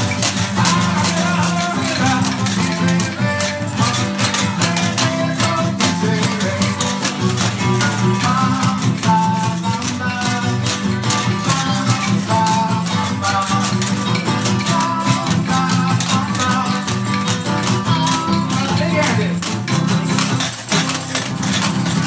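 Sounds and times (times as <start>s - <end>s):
acoustic guitar strumming: 0.0s - 22.0s
hand rattles and shakers: 0.0s - 22.0s.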